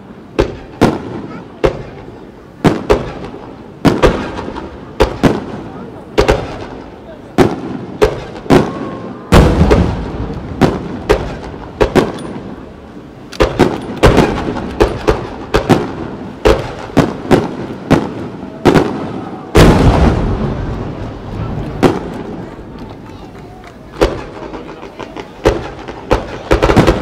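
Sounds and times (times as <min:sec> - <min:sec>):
firework bangs with echo: 0:00.0 - 0:27.0.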